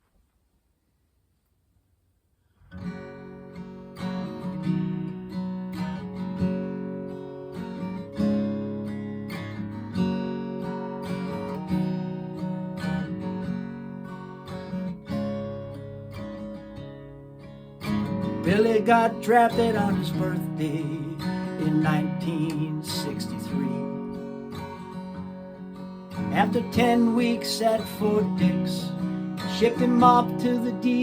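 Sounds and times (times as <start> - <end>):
acoustic guitar strumming: 2.7 - 31.0.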